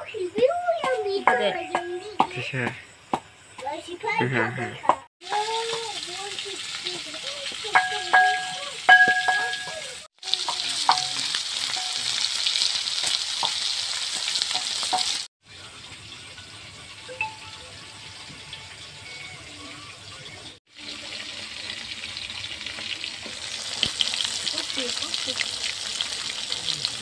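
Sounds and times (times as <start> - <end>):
fish frying in hot oil: 5.2 - 27.0.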